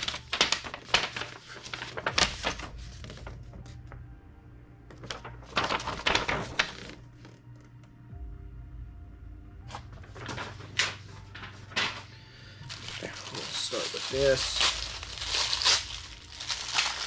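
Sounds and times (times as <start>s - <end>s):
paper rustling: 0.0s - 3.8s, 4.9s - 7.7s, 9.7s - 17.0s.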